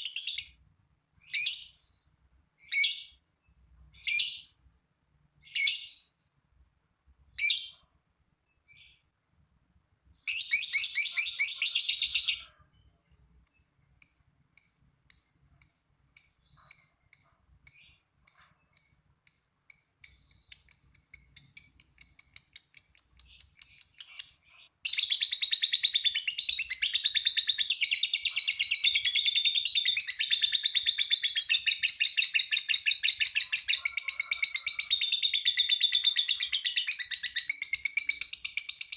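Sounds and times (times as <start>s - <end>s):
lovebird chirping and trilling: 0.0s - 0.6s, 1.2s - 3.2s, 4.0s - 4.6s, 5.4s - 6.2s, 7.3s - 7.8s, 8.6s - 9.1s, 10.2s - 12.7s, 13.4s - 38.9s.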